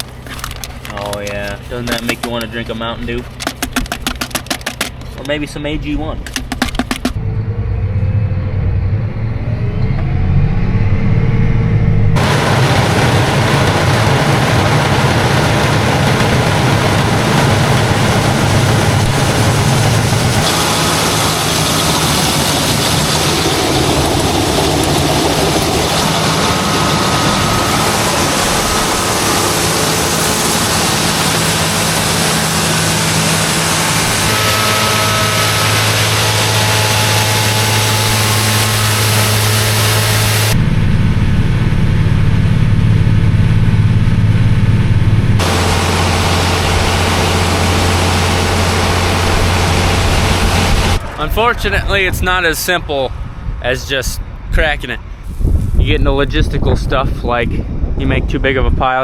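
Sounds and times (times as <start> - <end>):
heavy farm machinery engines: 0.0 - 54.0.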